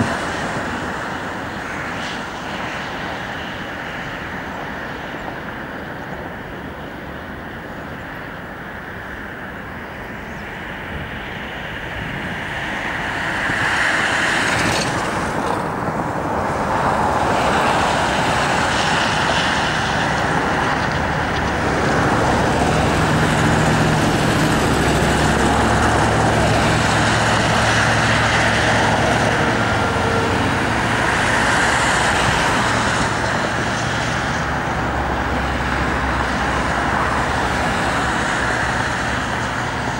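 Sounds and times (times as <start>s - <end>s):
low engine hum: 0.0s - 39.9s
road traffic noise: 0.0s - 39.9s.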